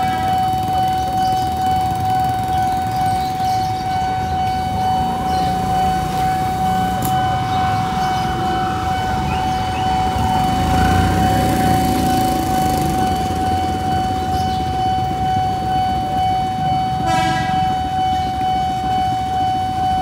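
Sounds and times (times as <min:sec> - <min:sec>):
idling motorcycle engines: 0:00.0 - 0:20.0
level-crossing alarm tone: 0:00.0 - 0:20.0.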